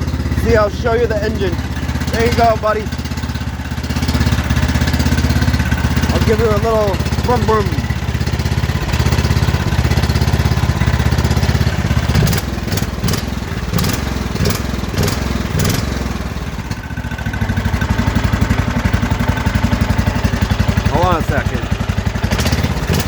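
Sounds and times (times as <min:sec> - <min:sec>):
garden tractor engine revving: 0:00.0 - 0:23.0.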